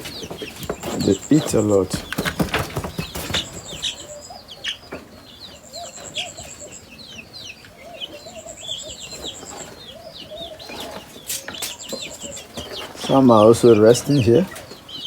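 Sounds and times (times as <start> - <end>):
chickens chirping and clucking: 0.0 - 15.0.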